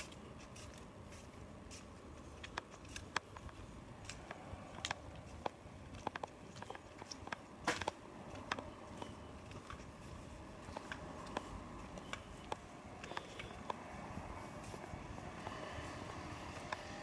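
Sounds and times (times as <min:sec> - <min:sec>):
faint street background: 0:00.0 - 0:17.0
footsteps on paving: 0:00.0 - 0:17.0.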